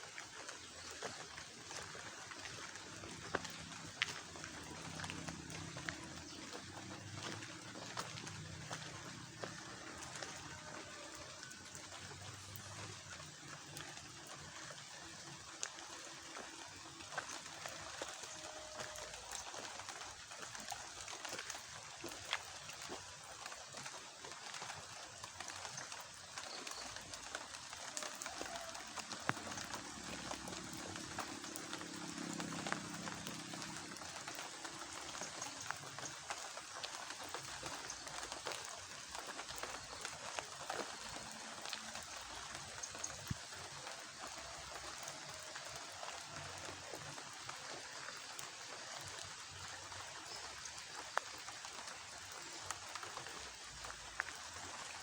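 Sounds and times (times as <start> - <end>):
dense patter of tiny ticks: 0.0 - 55.0.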